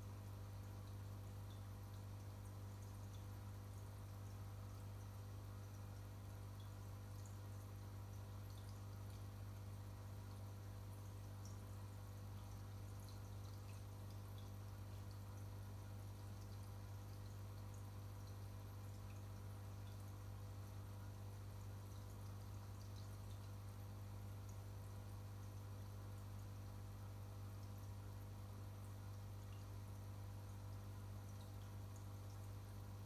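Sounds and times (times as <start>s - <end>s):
aquarium equipment humming: 0.0s - 33.0s
water drips: 0.1s - 33.0s.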